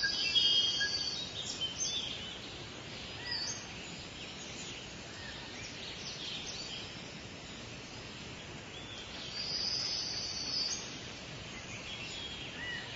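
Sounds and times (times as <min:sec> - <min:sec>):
small birds chirping: 0:00.0 - 0:12.9
steady background hiss: 0:00.0 - 0:12.9.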